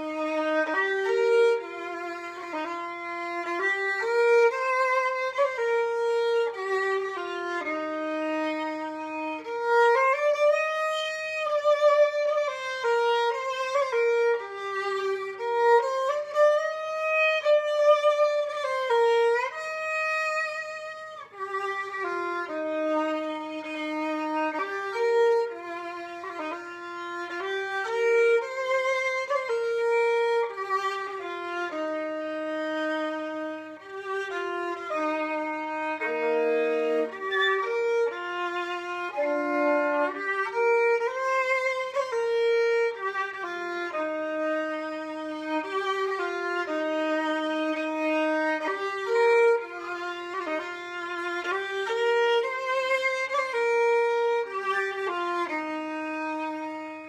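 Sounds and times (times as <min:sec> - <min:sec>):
violin playing slow hymn: 0:00.0 - 0:57.0.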